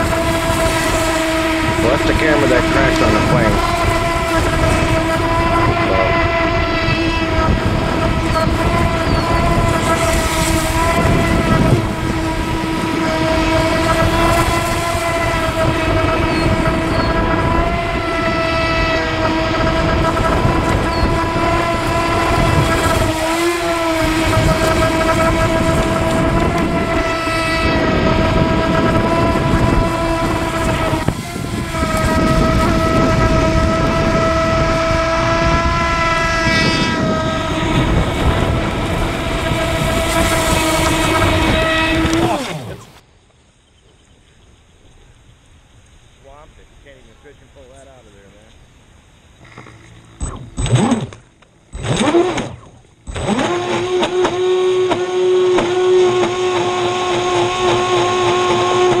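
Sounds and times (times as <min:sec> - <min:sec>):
high electric motor whine: 0:00.0 - 0:43.1, 0:46.3 - 0:59.0
water rushing: 0:00.0 - 0:43.1, 0:44.8 - 0:59.0.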